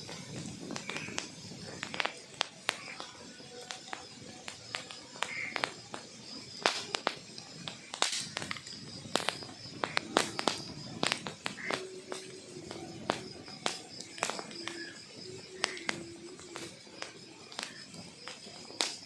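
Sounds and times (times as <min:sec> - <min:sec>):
burning logs crackling: 0:00.0 - 0:19.0.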